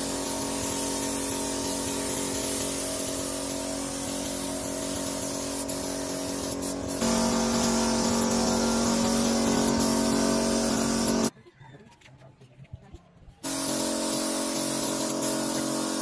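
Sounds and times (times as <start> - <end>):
air compressor humming: 0.0 - 11.3, 13.4 - 16.0
spray gun hissing: 0.0 - 11.3, 13.4 - 16.0.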